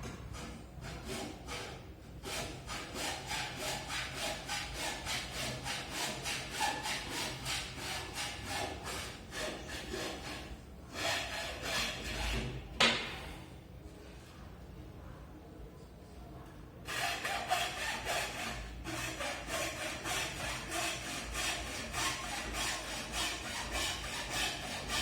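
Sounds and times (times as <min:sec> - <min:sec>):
hand saw cutting wood: 0:00.3 - 0:13.0, 0:16.9 - 0:25.0.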